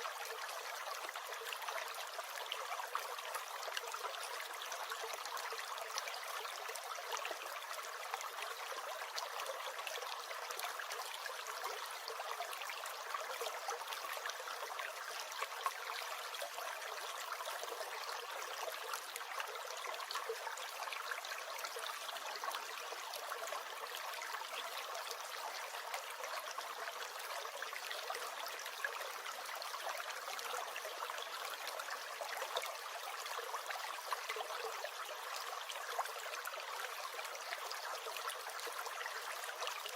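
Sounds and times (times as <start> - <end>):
small stream gurgling: 0.0 - 39.9.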